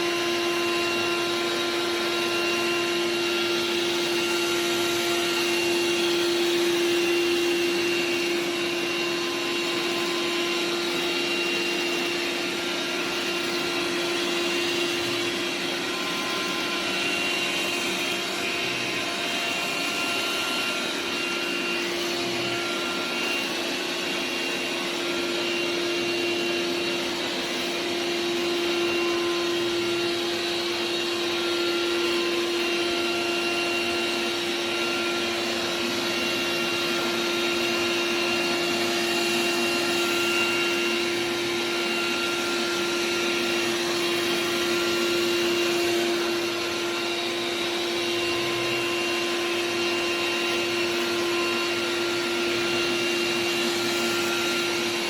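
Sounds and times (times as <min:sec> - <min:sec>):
robot vacuum humming: 0:00.0 - 0:55.0.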